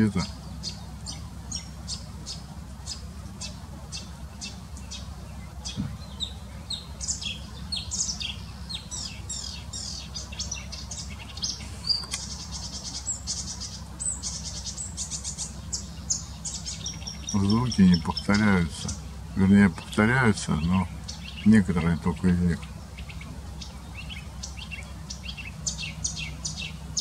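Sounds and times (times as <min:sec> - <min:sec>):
warbler singing: 0:00.0 - 0:27.0.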